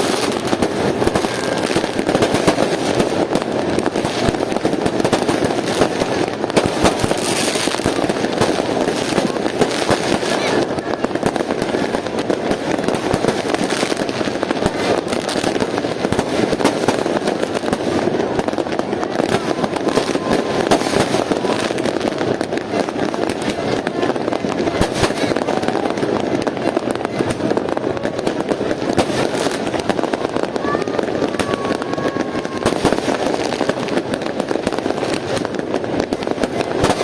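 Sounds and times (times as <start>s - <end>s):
fireworks and firecrackers crackling: 0.0s - 37.0s
people's voices: 0.0s - 37.0s.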